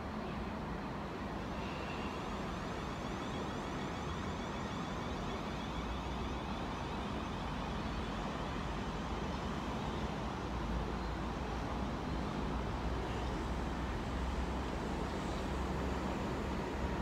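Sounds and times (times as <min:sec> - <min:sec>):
distant train rumble and hiss: 0:00.0 - 0:17.0.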